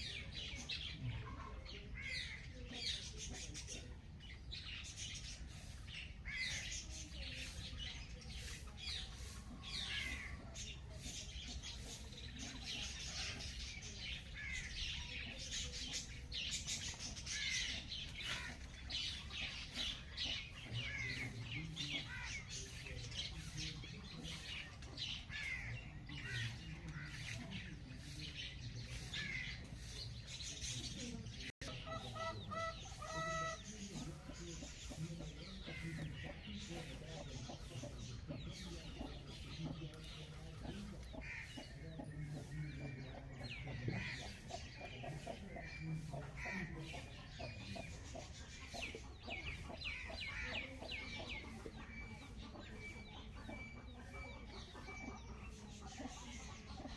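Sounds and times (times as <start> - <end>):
chickens clucking: 0.0 - 56.9
small birds chirping: 0.0 - 56.9.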